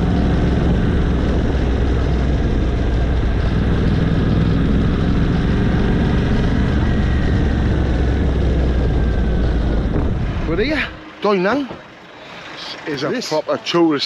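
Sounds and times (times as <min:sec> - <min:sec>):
motorcycle engine running: 0:00.0 - 0:11.6
road and wind noise: 0:00.0 - 0:14.0.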